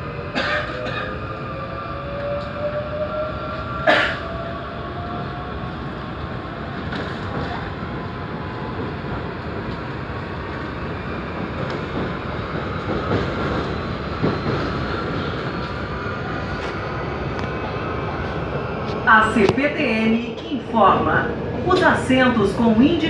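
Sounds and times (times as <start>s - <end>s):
train running noise: 0.0s - 23.0s.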